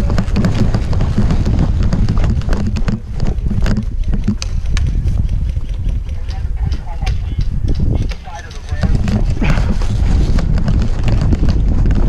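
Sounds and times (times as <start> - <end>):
sharp clicks and taps: 0.0 - 9.7
wind buffeting microphone: 0.0 - 12.0.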